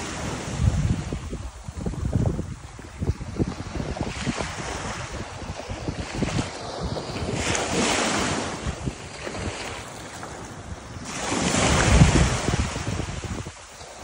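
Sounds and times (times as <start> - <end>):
waves washing onto beach: 0.0 - 14.0
wind buffeting microphone: 0.0 - 14.0.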